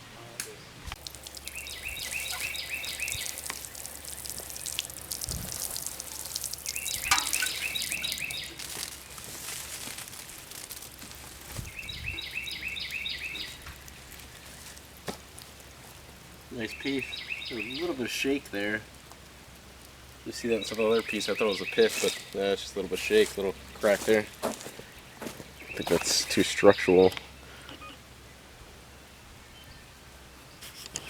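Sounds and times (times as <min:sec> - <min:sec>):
songbird singing: 0:00.0 - 0:31.0.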